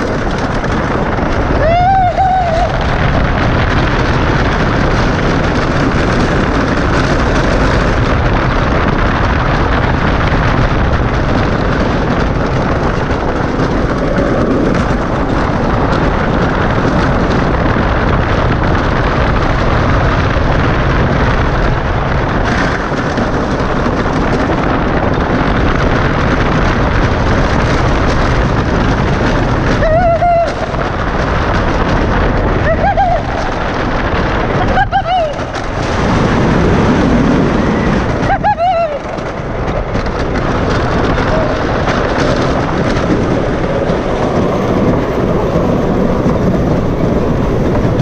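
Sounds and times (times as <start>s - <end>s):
roller coaster rumble and rattle: 0.0s - 48.0s
wind noise on microphone: 0.0s - 48.0s.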